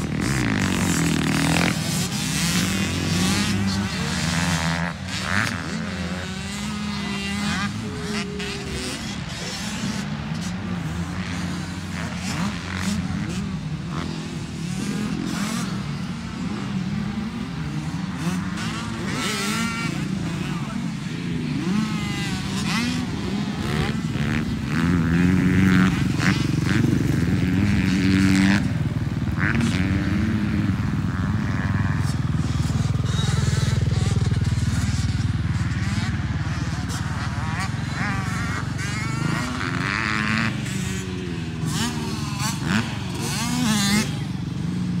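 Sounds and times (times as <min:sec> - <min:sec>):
dirt bike engines revving: 0:00.0 - 0:45.0.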